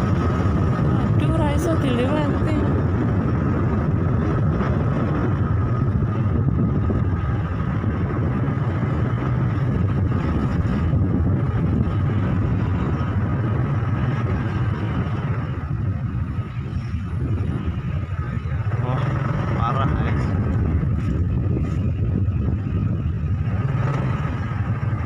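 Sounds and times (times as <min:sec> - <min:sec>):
vehicle rumble in motion: 0:00.0 - 0:25.0
wind on microphone: 0:00.0 - 0:25.0.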